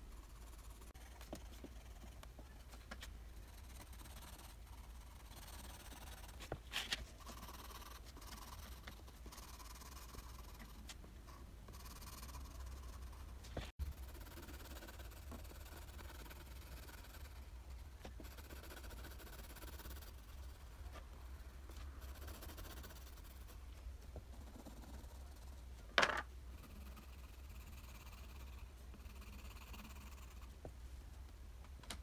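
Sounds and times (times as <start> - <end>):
colored pencil scratching on paper: 0.0 - 25.8.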